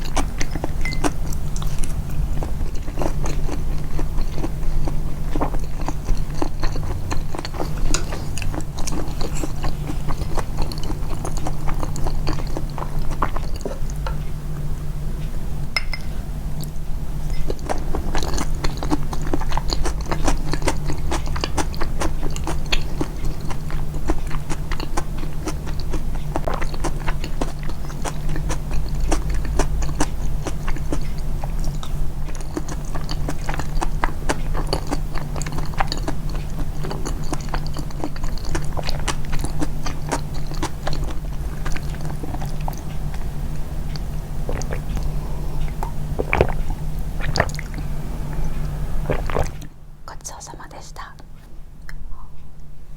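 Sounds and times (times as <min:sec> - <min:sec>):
close-miked chewing: 0:00.0 - 0:15.3, 0:16.5 - 0:52.5.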